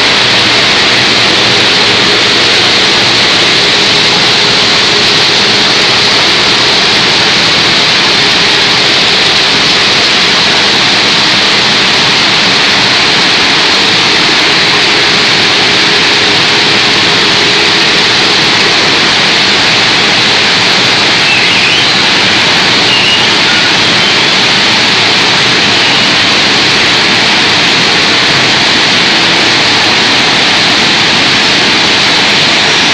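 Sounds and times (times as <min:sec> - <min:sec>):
hydraulic motor and pump hissing: 0:00.0 - 0:32.9.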